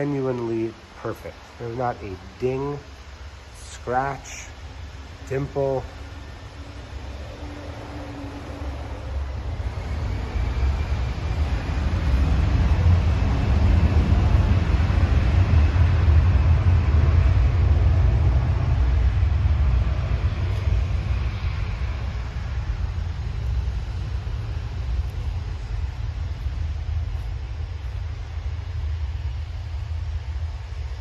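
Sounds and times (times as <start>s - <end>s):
faint jet whine: 0.0s - 31.0s
jet aircraft taking off: 0.0s - 31.0s.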